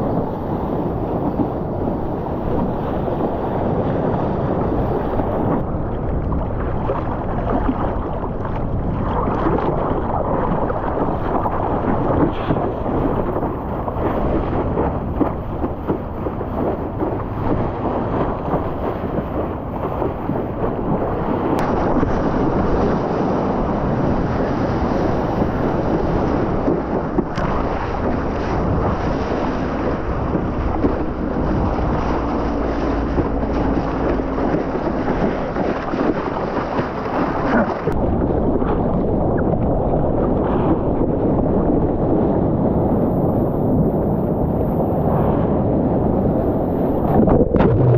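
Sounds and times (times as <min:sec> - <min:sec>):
ocean surf rushing: 0:00.0 - 0:38.7, 0:42.1 - 0:47.9
wind buffeting microphone: 0:00.0 - 0:47.9.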